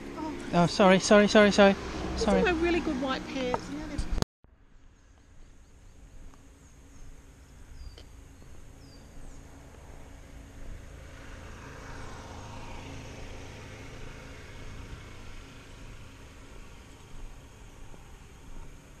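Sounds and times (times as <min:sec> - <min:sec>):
vehicle noise: 0:00.0 - 0:19.0.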